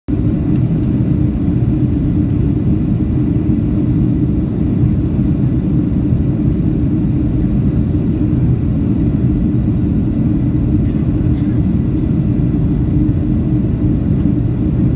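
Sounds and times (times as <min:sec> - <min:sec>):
airplane cabin engine rumble: 0:00.1 - 0:14.9.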